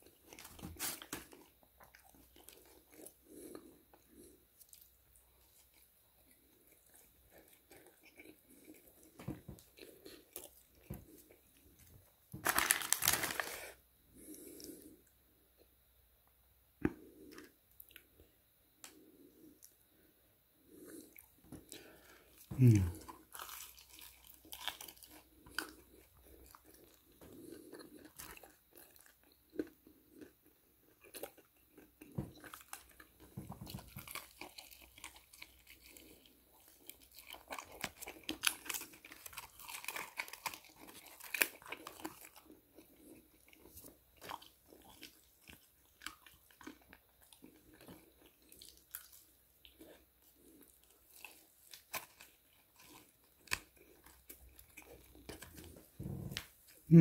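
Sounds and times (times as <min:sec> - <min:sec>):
person chewing crispy chicken: 0:00.0 - 0:15.1, 0:20.7 - 0:57.0.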